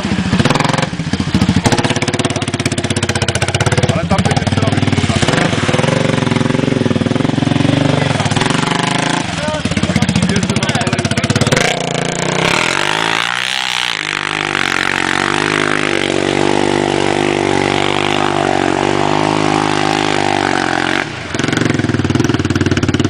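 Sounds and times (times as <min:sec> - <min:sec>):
water spraying: 0:00.0 - 0:22.3
quad engine revving: 0:00.0 - 0:23.0.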